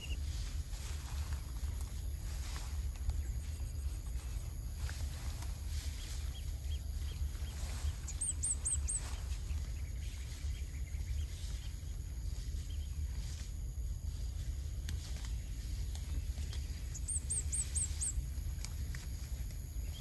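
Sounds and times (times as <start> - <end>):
small bird chirping: 0.0 - 13.5, 14.1 - 18.8
steady low rumble: 0.0 - 20.0.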